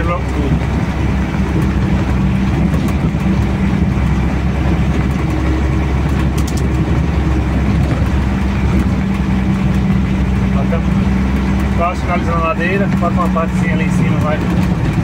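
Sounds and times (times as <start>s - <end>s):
diesel truck engine pulling: 0.0s - 15.0s.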